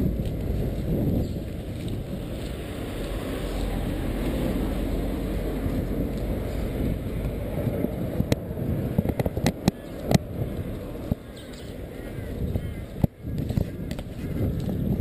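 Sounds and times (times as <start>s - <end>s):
low rumble of street noise: 0.0s - 15.0s.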